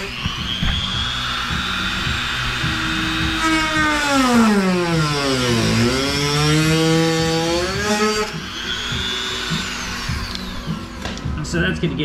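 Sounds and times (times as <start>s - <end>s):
rotary tool cutting plastic: 0.0s - 11.3s.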